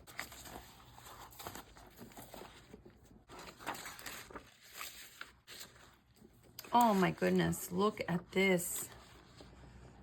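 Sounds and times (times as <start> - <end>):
paper rustling and crinkling: 0.0 - 9.8.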